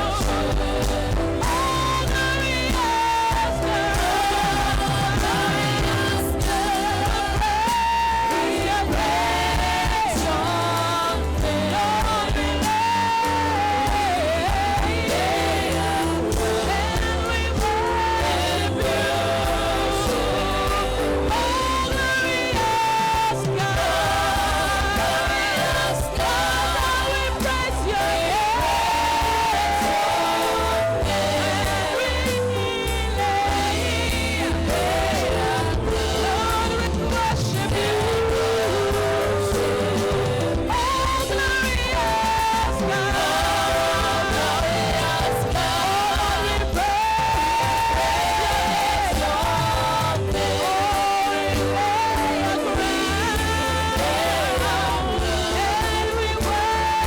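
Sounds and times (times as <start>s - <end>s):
band accompaniment: 0.0s - 57.0s
people singing worship song: 0.0s - 57.0s
steady bass: 0.0s - 57.0s.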